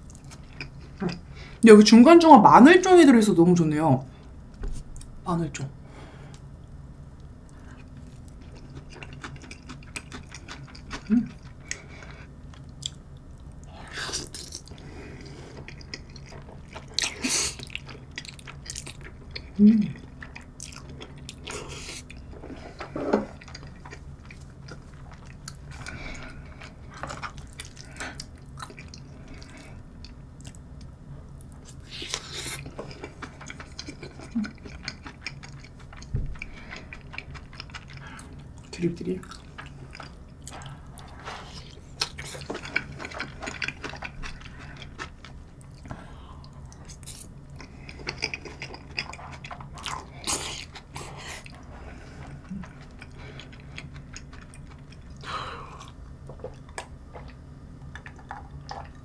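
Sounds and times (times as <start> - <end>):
chewing with wet mouth clicks: 7.2 - 13.6, 15.6 - 55.2, 55.8 - 59.0.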